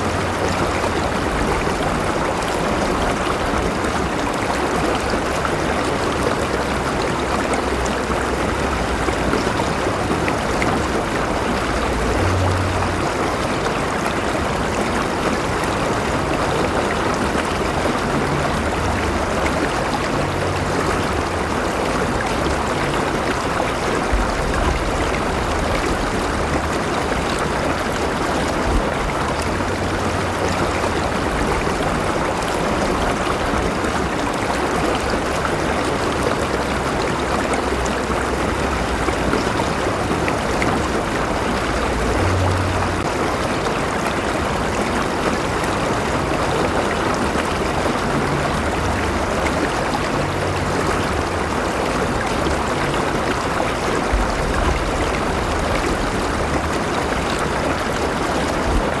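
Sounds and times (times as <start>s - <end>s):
low rumbles: 0.0s - 59.0s
river water flowing over rocks: 0.0s - 59.0s.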